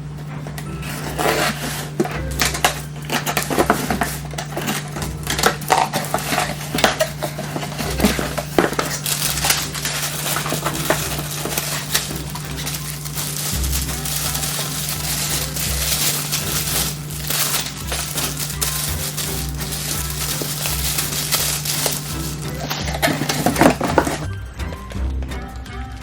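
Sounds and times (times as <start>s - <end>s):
packaging crinkling and rustling: 0.4s - 25.0s.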